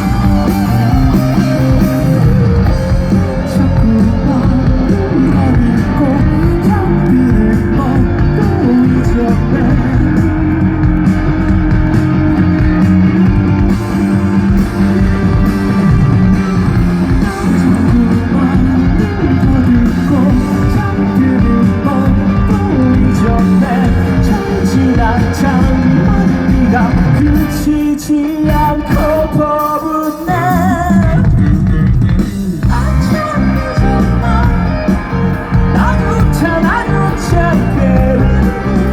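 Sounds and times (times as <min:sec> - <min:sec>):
man singing: 0:00.0 - 0:11.4, 0:15.7 - 0:31.5, 0:32.5 - 0:38.9
distorted electric guitars: 0:00.0 - 0:38.9
live rock band playing: 0:00.0 - 0:38.9.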